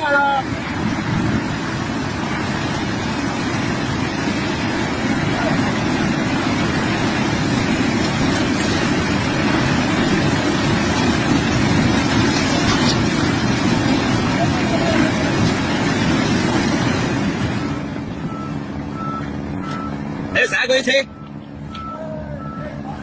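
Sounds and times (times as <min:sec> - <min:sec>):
heavy machine engine rumbling: 0:00.0 - 0:23.0.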